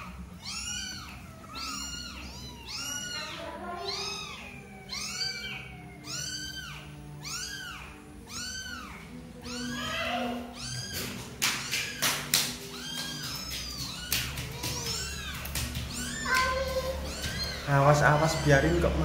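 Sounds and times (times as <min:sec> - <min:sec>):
kittens mewing: 0:00.0 - 0:19.0.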